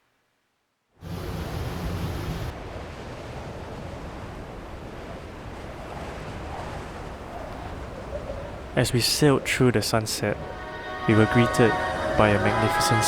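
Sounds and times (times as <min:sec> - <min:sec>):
wind and sea water rushing: 0:01.0 - 0:13.0.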